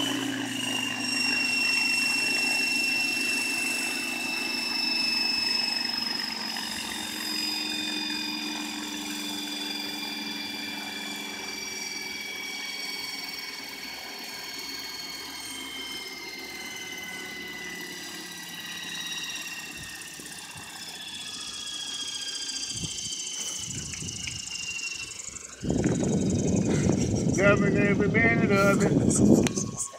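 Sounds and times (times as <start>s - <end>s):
model helicopter motor whine: 0.0s - 29.9s.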